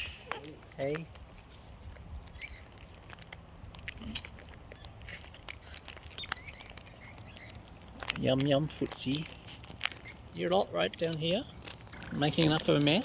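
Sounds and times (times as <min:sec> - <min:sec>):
beaks cracking seed: 0:00.0 - 0:13.0.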